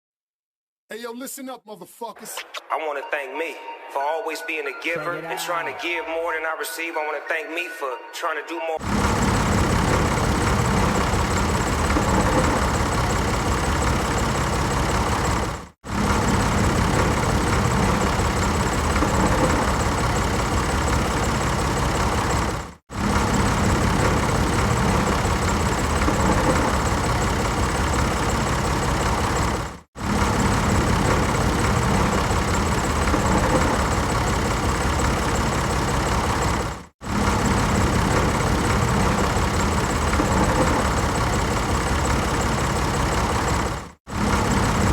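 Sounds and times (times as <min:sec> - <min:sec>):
tractor engine running: 0:08.8 - 0:44.9.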